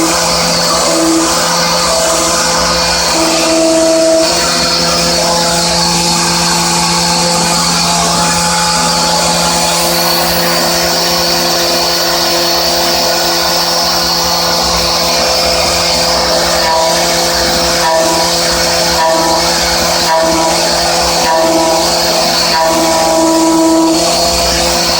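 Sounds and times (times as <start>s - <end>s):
milling machine whine: 0.0s - 24.9s.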